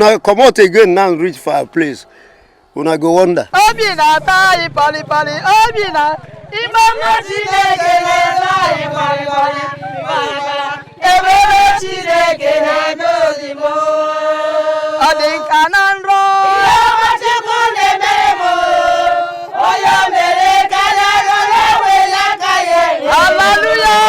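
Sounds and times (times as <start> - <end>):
voices singing and chanting: 3.6 - 24.0.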